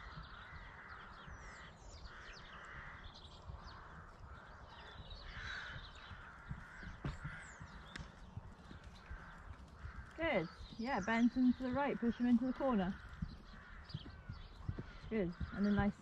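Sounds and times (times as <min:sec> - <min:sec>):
crows cawing: 0:00.0 - 0:16.0
small birds chirping: 0:00.0 - 0:16.0.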